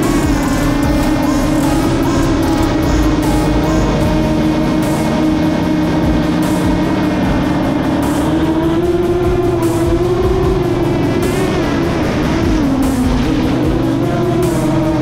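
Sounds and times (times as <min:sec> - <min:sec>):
engine-like drone: 0:00.0 - 0:15.0
rock music with steady beat: 0:00.0 - 0:15.0.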